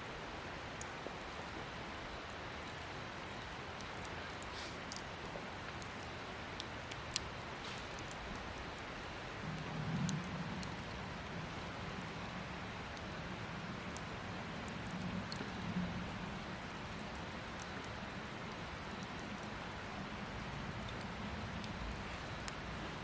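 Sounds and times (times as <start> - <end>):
campfire hissing and crackling: 0.0 - 23.0.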